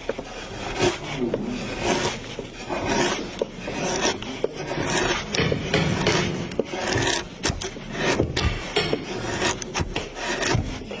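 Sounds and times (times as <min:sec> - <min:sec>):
carving tools scraping wood: 0:00.0 - 0:11.0.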